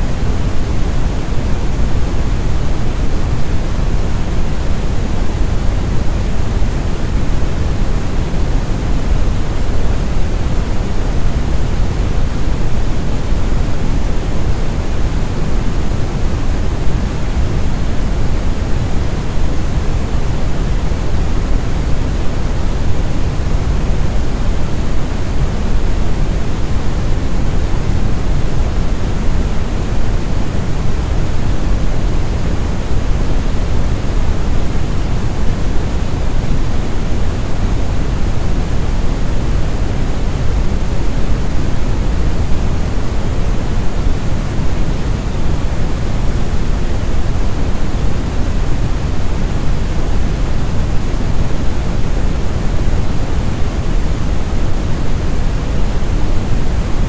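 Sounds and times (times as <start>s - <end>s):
deep rumbling noise hiss: 0.0s - 57.0s.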